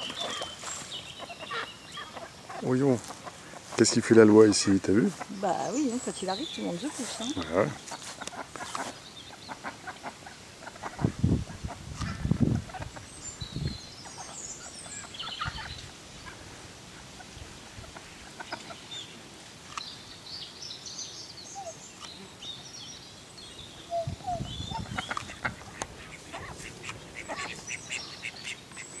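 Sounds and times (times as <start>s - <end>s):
mid-pitched bird calls: 0.0s - 3.8s, 4.5s - 16.4s, 17.9s - 29.0s
birds chirping: 0.0s - 29.0s.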